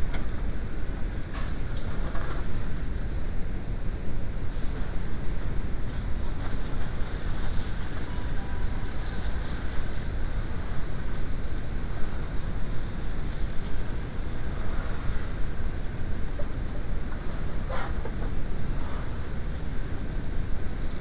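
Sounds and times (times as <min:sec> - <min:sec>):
rushing air: 0:00.0 - 0:21.0.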